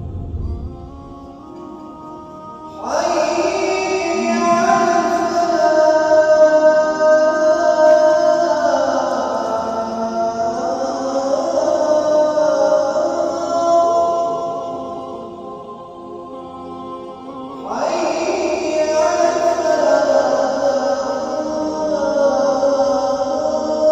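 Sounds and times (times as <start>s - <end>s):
man chanting call to prayer: 0.9s - 15.6s, 16.5s - 23.9s.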